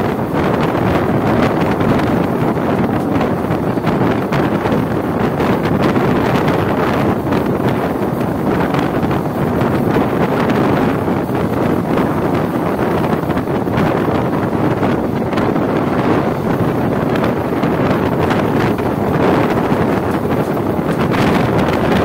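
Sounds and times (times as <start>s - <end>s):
train running noise: 0.0s - 22.0s
wind rushing over microphone: 0.0s - 22.0s.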